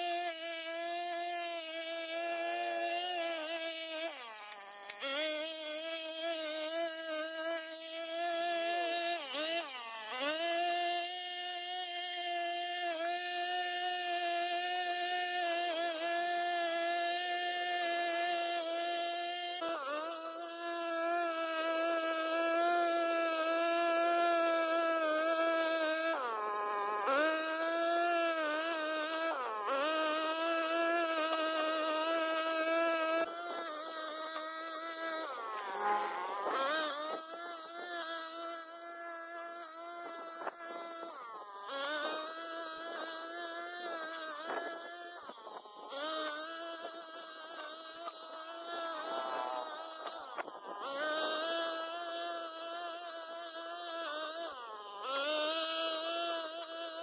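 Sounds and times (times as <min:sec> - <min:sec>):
brush cutter engine buzzing: 0:00.0 - 0:57.0.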